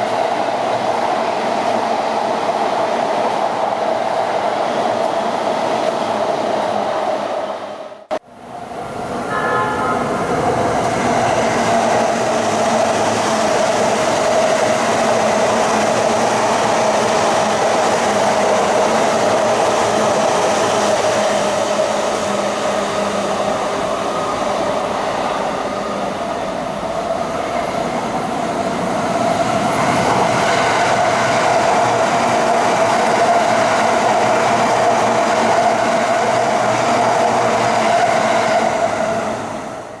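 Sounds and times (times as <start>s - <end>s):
electric train on rails: 0.0s - 40.0s.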